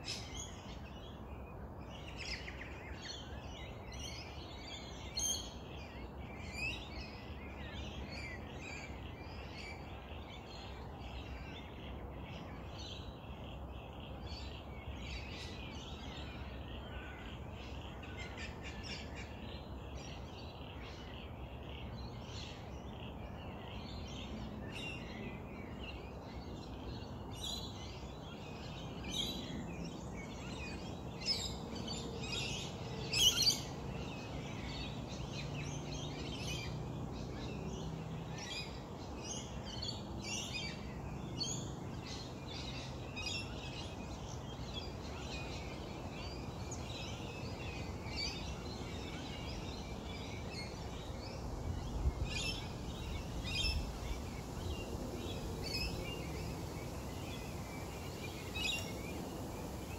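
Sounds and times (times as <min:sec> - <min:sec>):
birds chirping and tweeting: 0:00.0 - 0:59.9
low outdoor background hum: 0:00.0 - 0:59.9.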